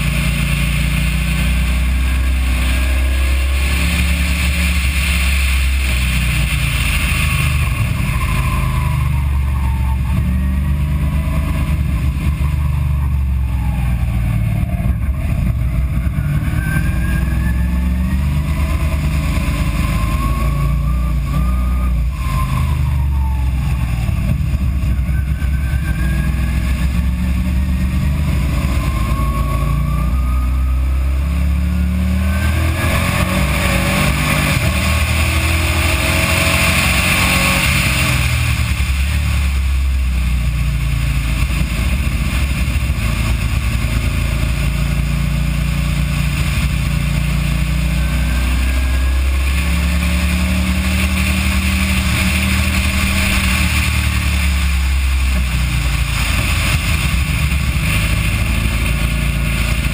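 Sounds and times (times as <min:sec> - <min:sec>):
car engine revving: 0:00.0 - 0:59.9
heavy low rumble: 0:00.0 - 0:59.9.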